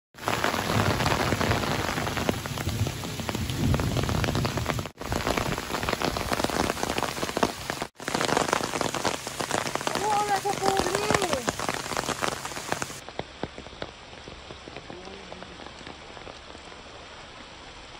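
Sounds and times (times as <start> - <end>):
rain pattering on stone paving: 0.2 - 17.9.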